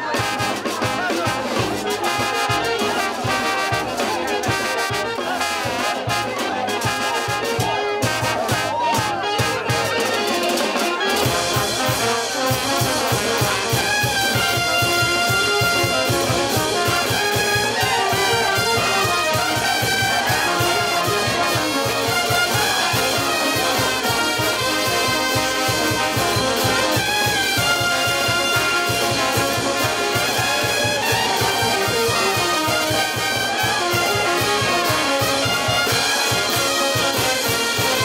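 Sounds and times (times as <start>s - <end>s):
trumpets playing held notes: 0.0s - 38.0s.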